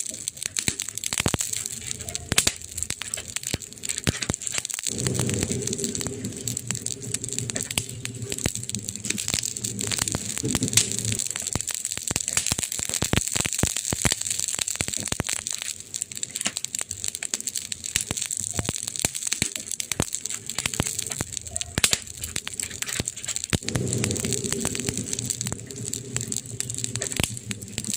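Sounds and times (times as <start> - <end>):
steady hiss: 0.0 - 16.6, 18.5 - 27.9
wood fire crackling: 0.0 - 27.9.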